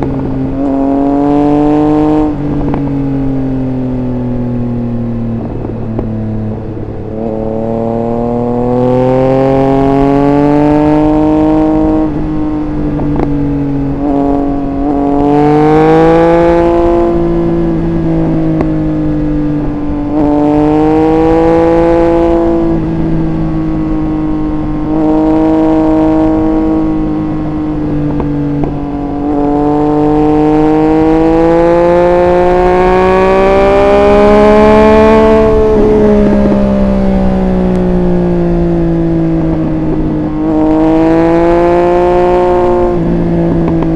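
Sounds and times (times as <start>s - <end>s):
motorcycle engine accelerating: 0.0s - 43.9s
wind rush on microphone: 0.0s - 43.9s.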